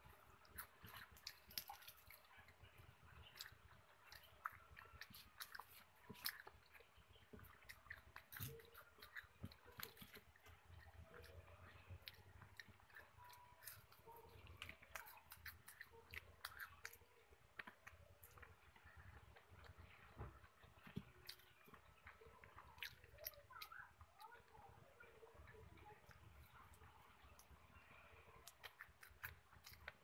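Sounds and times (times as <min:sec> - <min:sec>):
chewing fried food: 0:00.0 - 0:30.0.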